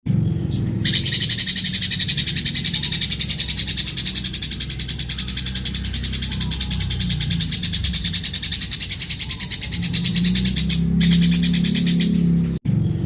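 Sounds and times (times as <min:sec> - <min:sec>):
low hum: 0:00.1 - 0:13.0
bird chattering trill: 0:00.4 - 0:12.6.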